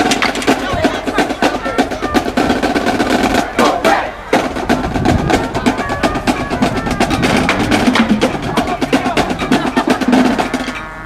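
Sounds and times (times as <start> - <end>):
rapid snare drumming: 0.0 - 10.8
band playing: 0.0 - 11.0.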